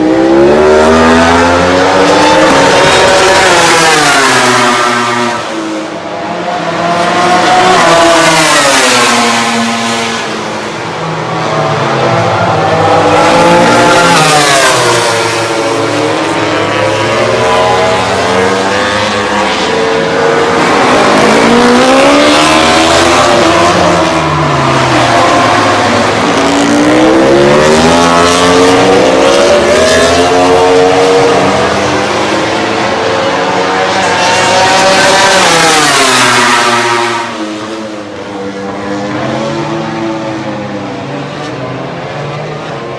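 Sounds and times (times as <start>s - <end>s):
racing motorcycles passing at speed: 0.0s - 42.9s.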